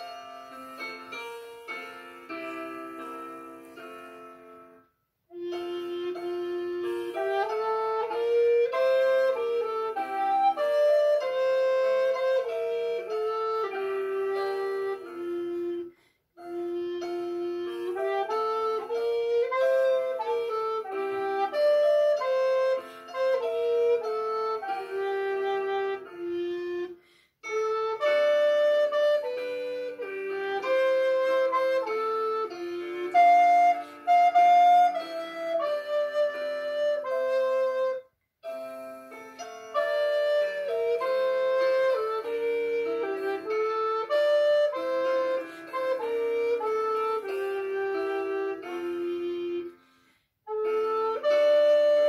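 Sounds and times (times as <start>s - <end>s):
recorder playing slow melody: 0.0s - 52.0s.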